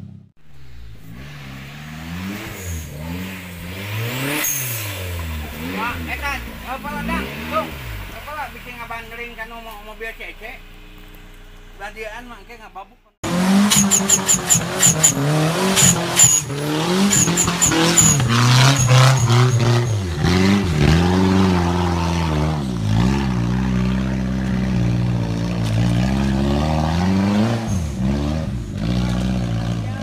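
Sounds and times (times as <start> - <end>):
engine revving hard: 0.0 - 8.8, 13.2 - 30.0.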